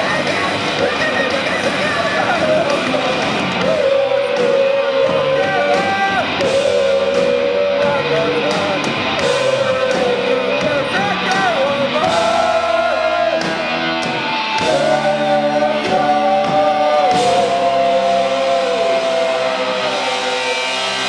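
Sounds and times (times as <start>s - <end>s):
drums: 0.0s - 21.0s
electric guitars: 0.0s - 21.0s
singer yelling into microphone: 0.0s - 21.0s.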